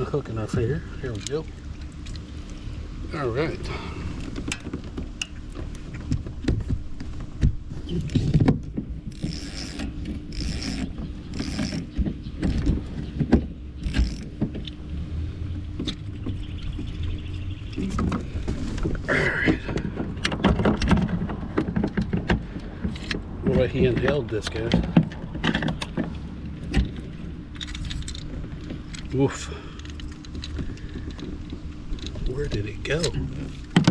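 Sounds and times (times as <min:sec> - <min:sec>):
handling clicks and knocks: 0:04.2 - 0:14.8, 0:15.8 - 0:33.9.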